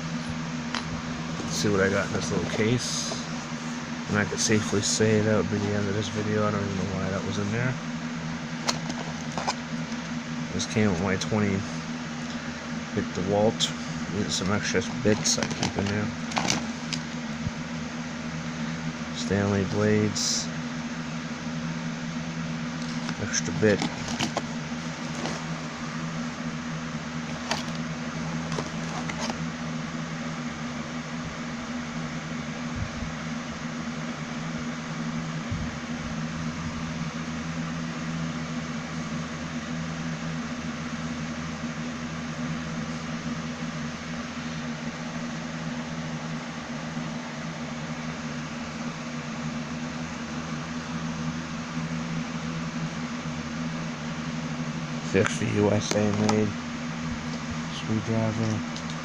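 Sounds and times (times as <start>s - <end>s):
mechanical hum with hiss: 0.0s - 59.0s.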